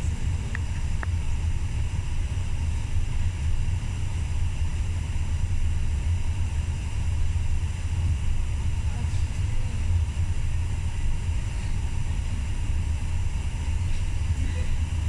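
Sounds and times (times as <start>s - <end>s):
wind tunnel fans rumbling: 0.0s - 15.0s.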